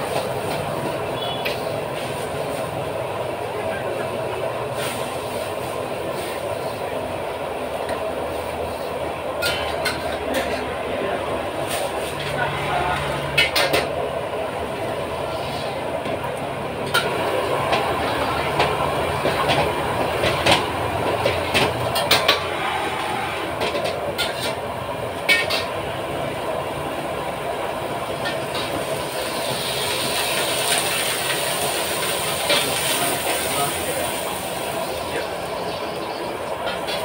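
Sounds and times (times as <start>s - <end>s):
burner and frying noise: 0.0s - 37.0s.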